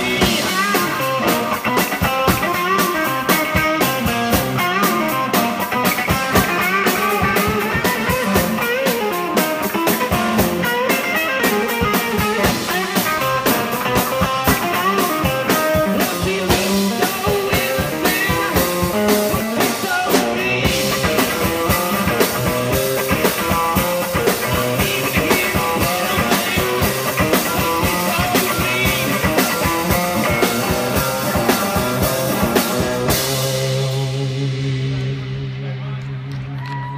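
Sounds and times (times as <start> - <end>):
drum kit playing: 0.0 - 36.5
electric guitar playing: 0.0 - 36.9.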